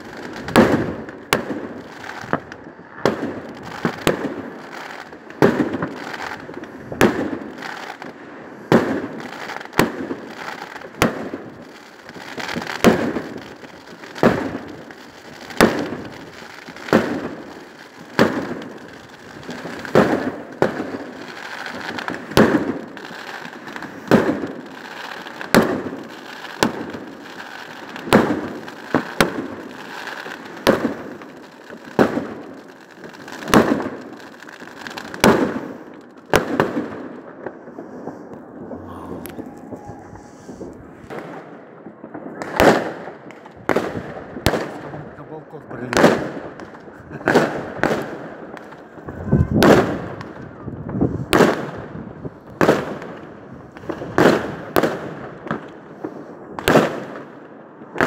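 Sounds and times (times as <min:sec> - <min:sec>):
firework crackle: 0:00.0 - 0:58.0.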